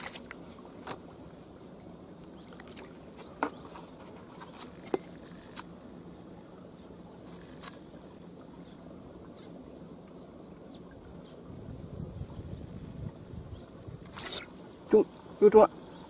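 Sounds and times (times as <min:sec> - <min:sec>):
faint water rush: 0:00.0 - 0:16.0.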